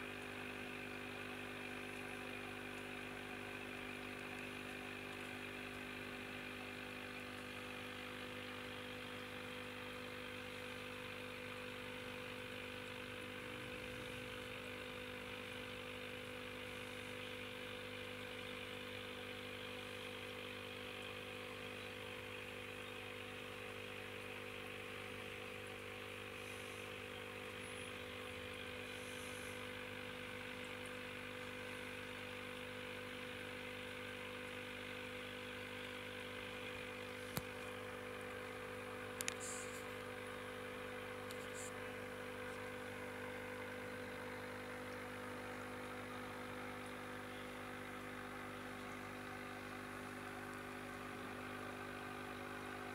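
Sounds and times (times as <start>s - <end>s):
aquarium pump humming: 0.0s - 52.9s.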